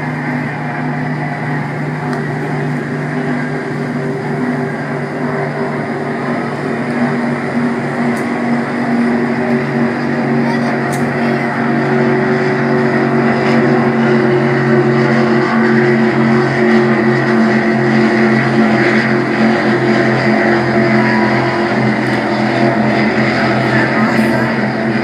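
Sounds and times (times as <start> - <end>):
powerboat engines running at speed: 0.0 - 25.0.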